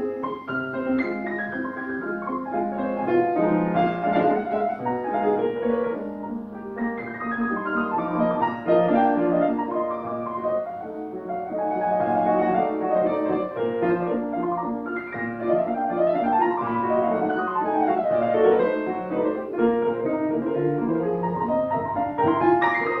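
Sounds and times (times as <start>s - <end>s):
classical solo piano: 0.0s - 23.0s.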